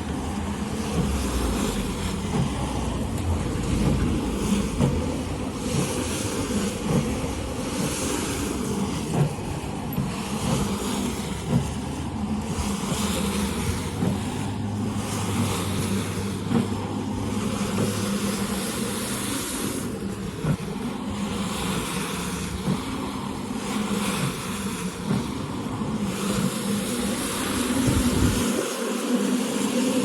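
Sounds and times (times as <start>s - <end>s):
cleaning machine motor running: 0.0s - 30.0s.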